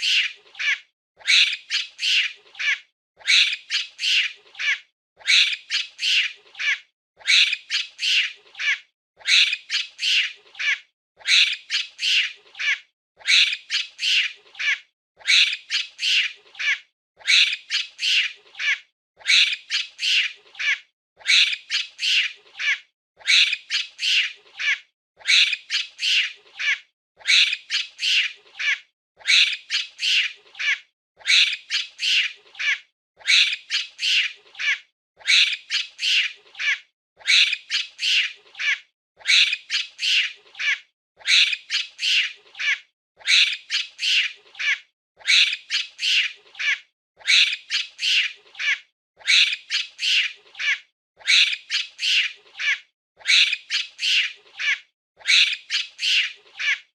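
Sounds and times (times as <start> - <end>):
monkey squawking calls: 0.0 - 56.9.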